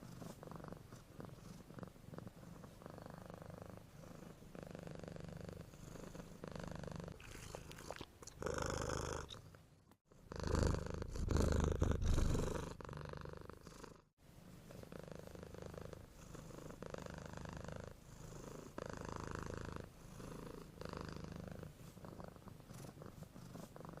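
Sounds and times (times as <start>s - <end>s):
cat snoring: 0.0s - 7.5s, 8.4s - 14.1s, 14.7s - 24.0s.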